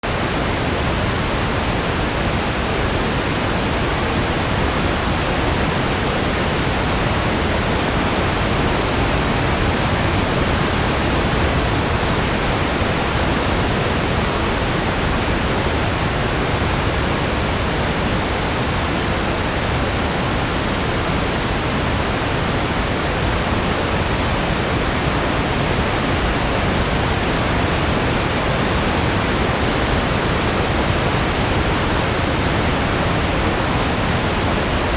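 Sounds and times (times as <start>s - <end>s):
steady wind noise: 0.0s - 34.9s.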